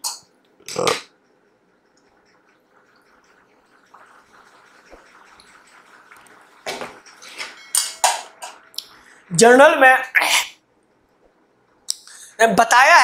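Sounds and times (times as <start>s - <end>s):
faint room hiss: 0.0s - 13.0s.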